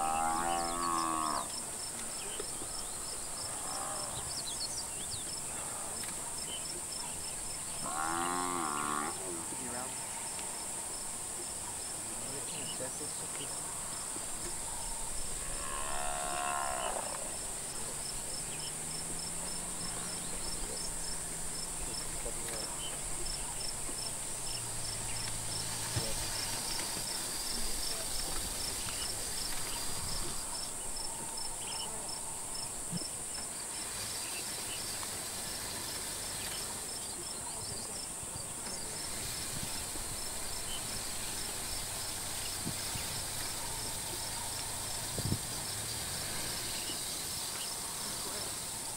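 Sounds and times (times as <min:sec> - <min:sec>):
insect chirping: 0:00.0 - 0:48.9
insects buzzing: 0:00.0 - 0:48.9.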